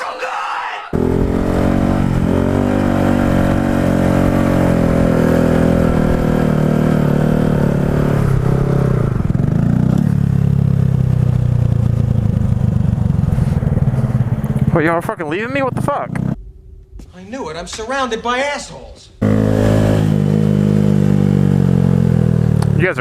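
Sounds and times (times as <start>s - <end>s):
motorcycle engine running: 1.0s - 16.4s, 19.2s - 23.0s.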